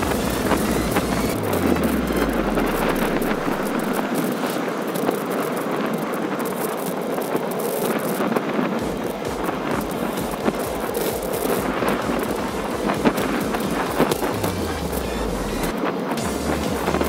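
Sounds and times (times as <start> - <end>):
bicycle riding on pavement: 0.0 - 17.0
wind on microphone: 0.0 - 17.0.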